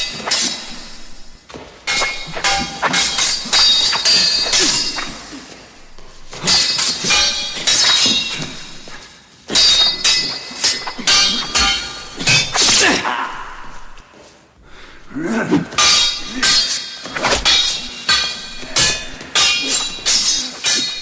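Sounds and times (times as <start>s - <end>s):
steel sword blades clashing: 0.0s - 14.0s, 15.7s - 21.0s.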